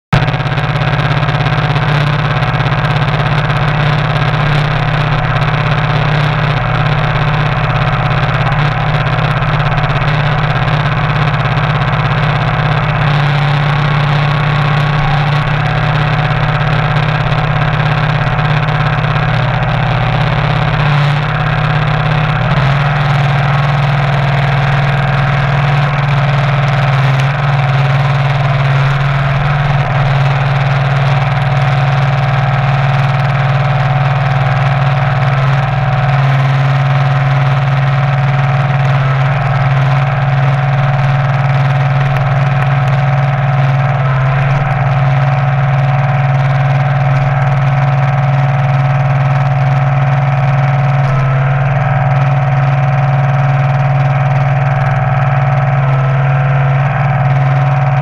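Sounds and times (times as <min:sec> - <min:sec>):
tractor engine running: 0:00.1 - 0:58.0.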